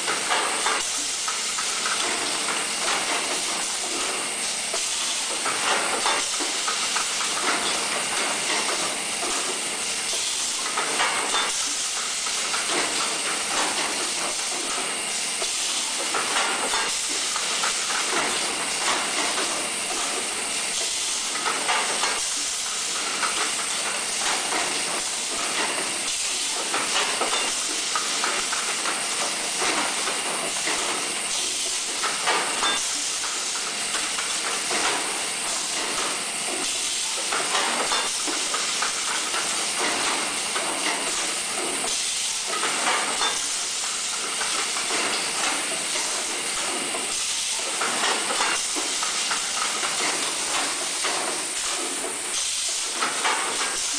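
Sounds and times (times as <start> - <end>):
pneumatic cylinder bursts and clacks: 0.0 - 53.9.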